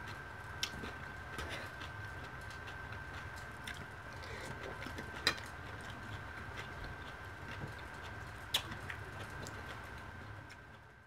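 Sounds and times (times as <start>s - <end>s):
chewing salad: 0.1s - 10.8s.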